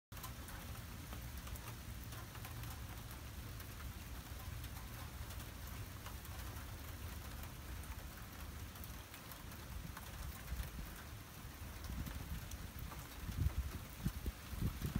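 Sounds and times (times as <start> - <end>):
rain falling: 0.1 - 14.9.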